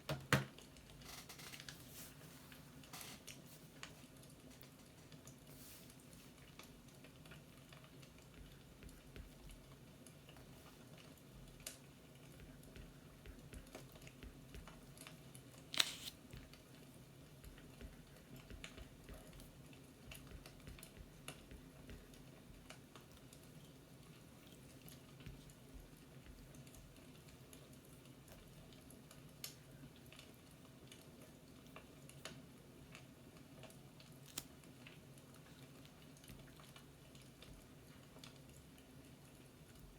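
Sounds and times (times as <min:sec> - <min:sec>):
faint light clicks and ticks: 0:02.8 - 0:39.9.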